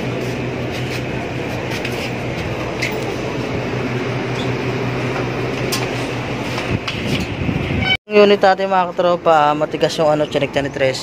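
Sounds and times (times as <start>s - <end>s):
air conditioner units humming: 0.0s - 11.0s.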